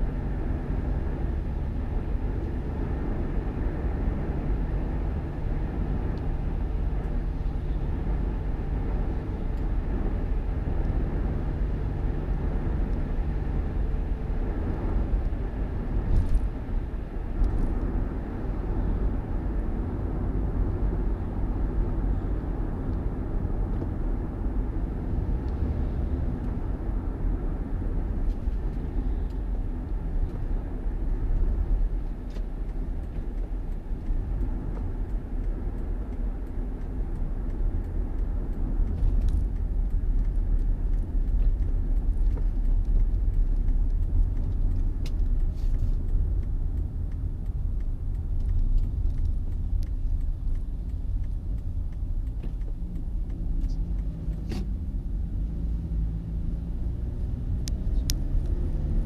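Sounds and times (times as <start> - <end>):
road noise: 0.0 - 59.0
vehicle engine rumble: 0.0 - 59.0.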